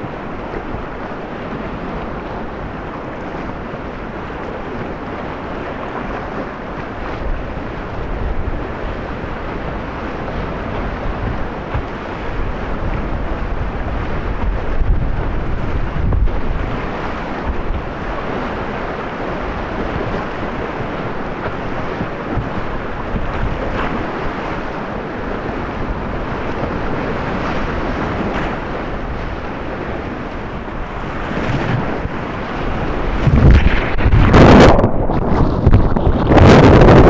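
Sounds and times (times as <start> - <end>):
whitewater rapids rushing: 0.0 - 37.0
wind buffeting microphone: 0.0 - 37.0.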